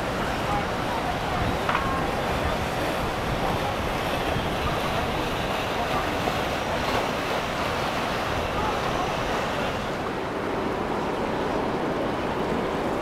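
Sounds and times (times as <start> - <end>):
motorboat engines: 0.0 - 13.0
water churned by wakes: 0.0 - 13.0
wind buffeting microphone: 0.0 - 13.0.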